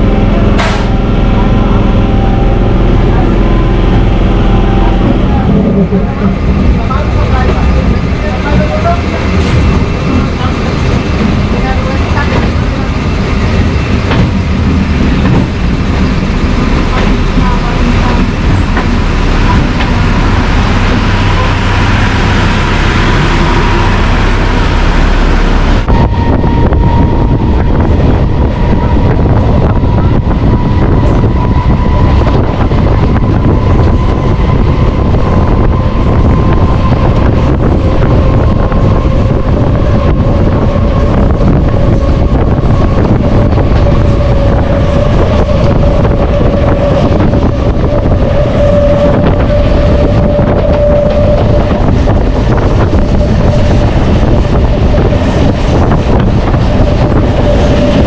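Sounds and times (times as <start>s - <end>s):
whine rising in pitch: 0.0s - 6.8s, 18.2s - 58.0s
train wheels rumbling on rails: 0.0s - 58.0s
wind buffeting microphone: 0.0s - 58.0s.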